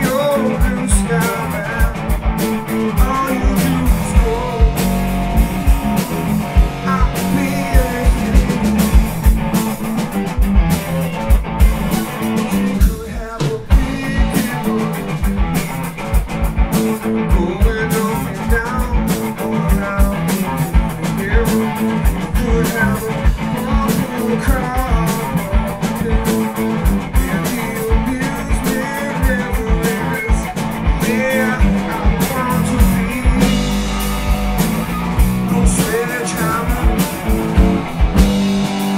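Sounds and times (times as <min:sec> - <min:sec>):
drum kit steady beat: 0:00.0 - 0:38.9
electric guitars: 0:00.0 - 0:38.9.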